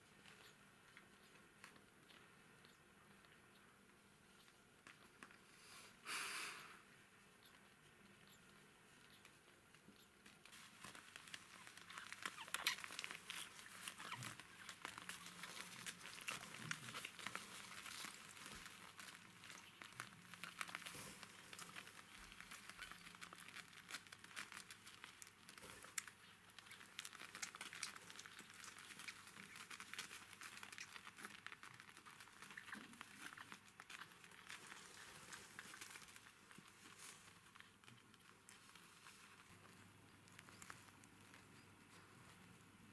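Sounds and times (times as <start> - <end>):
faint crinkly rustling: 0.0 - 42.9.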